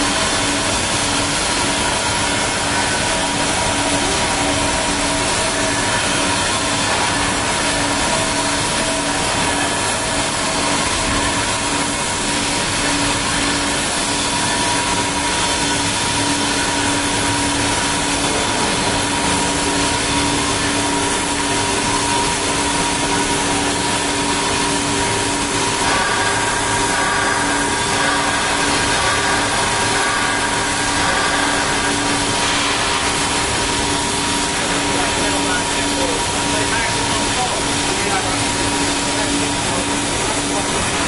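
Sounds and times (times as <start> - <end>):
plasma torch cutting steel: 0.0 - 41.0.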